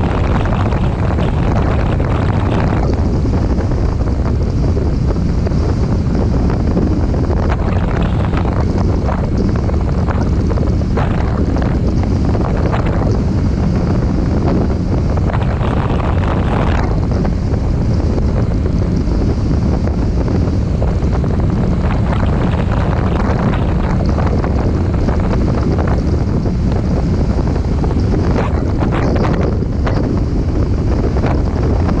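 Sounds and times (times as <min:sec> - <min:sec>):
motorcycle engine drone: 0:00.0 - 0:32.0
wind rushing over microphone: 0:00.0 - 0:32.0.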